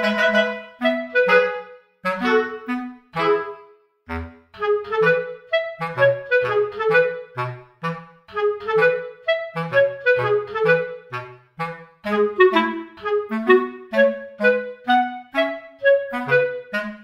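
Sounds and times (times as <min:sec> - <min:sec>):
bouncy woodwind melody: 0:00.0 - 0:17.0.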